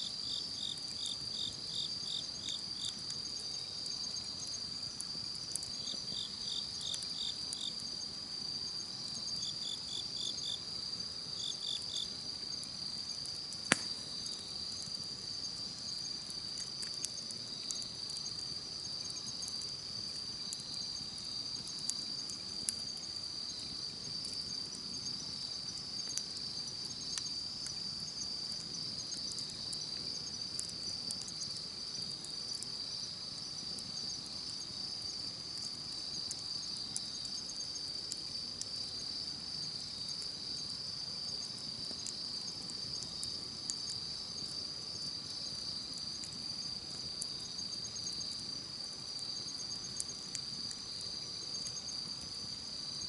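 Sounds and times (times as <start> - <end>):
insects trilling: 0.0 - 53.0
campfire crackling and popping: 0.1 - 52.8.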